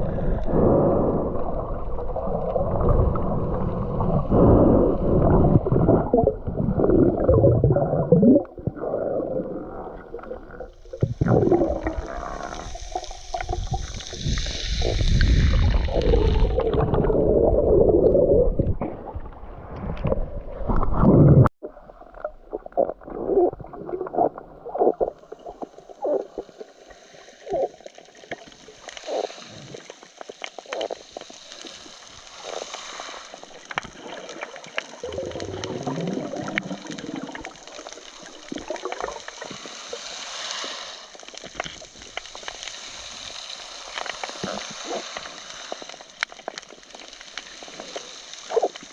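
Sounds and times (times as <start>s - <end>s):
water gurgling and rushing: 0.0s - 40.3s.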